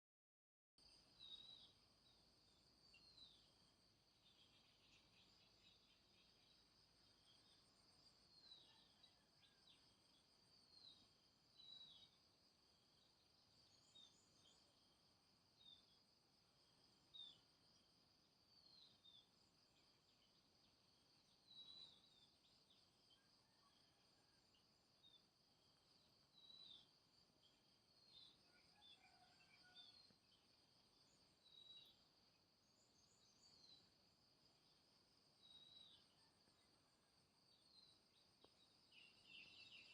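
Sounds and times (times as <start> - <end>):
insect chorus: 0.8 - 39.9.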